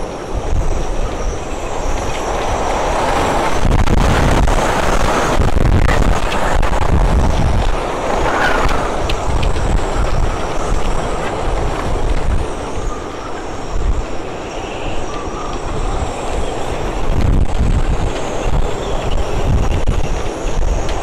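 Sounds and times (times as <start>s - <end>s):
driving rain hissing: 0.0s - 21.0s
wind gusts on microphone: 0.0s - 21.0s.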